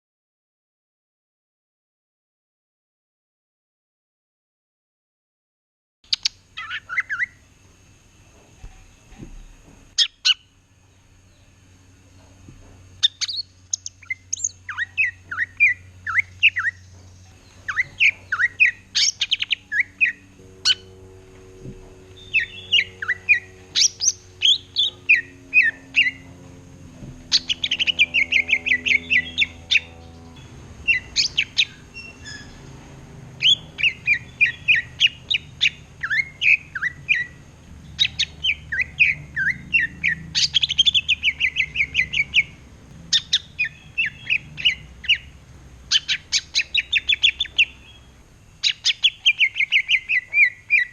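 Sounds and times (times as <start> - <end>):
bird singing chattering song: 6.1 - 7.4, 8.6 - 12.4, 13.0 - 26.6, 27.2 - 50.9.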